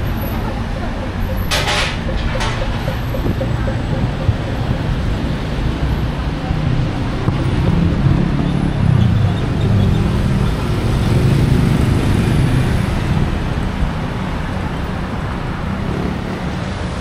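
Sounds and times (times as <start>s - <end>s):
passing engines and tyres: 0.0s - 17.0s.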